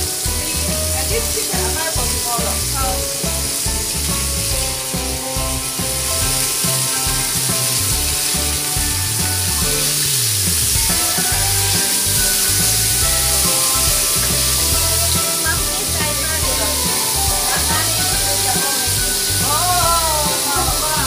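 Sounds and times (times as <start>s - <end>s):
background music with bass line: 0.0s - 21.0s
chicken wings sizzling in oil: 0.0s - 21.0s.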